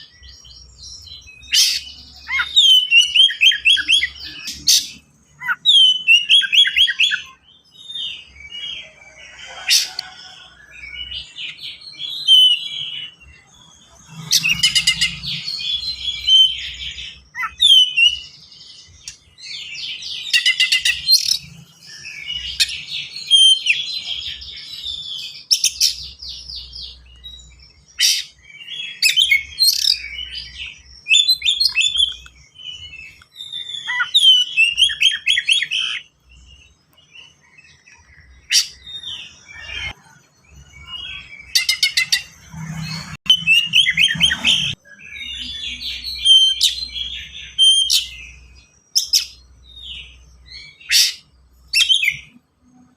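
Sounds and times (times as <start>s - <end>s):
magpie-robin singing trills and whistles: 0.0s - 9.0s, 9.7s - 42.4s, 43.2s - 52.9s.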